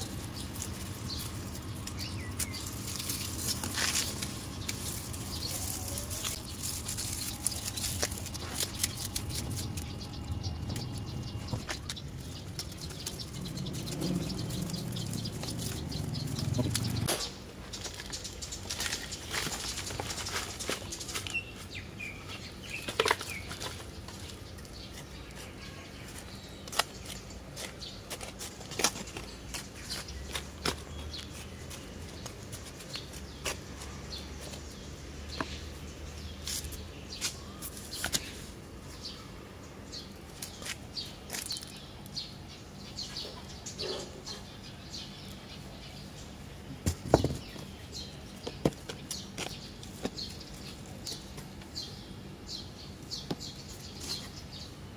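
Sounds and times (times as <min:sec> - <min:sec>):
soil and dry leaves rustling: 0:00.0 - 0:54.9.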